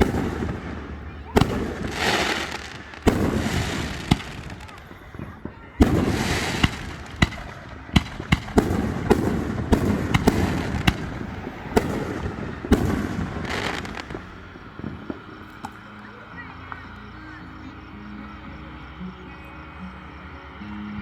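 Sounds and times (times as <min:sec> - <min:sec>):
fireworks bangs: 0:00.0 - 0:17.9
fireworks crackling: 0:00.0 - 0:21.0.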